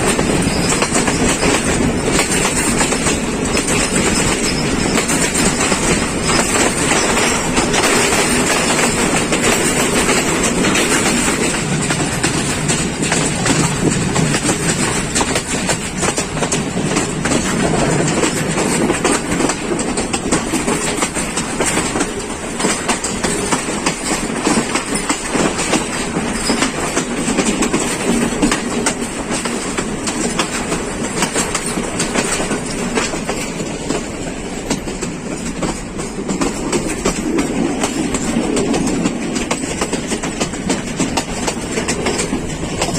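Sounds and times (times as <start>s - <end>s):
train rumbling with wheels clattering: 0.0s - 42.9s.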